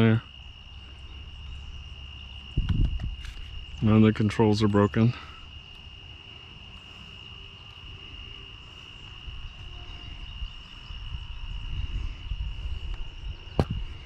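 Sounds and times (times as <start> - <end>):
low rumble on microphone: 0.0 - 5.7, 7.6 - 14.0
high-pitched insect chorus: 0.0 - 14.0.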